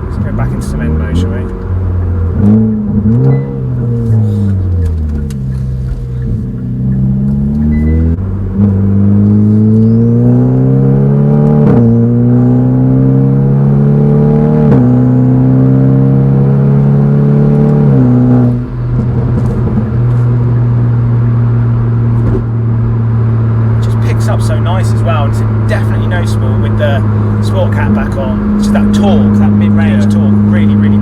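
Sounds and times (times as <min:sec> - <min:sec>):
car engine accelerating hard: 0:00.0 - 0:31.0.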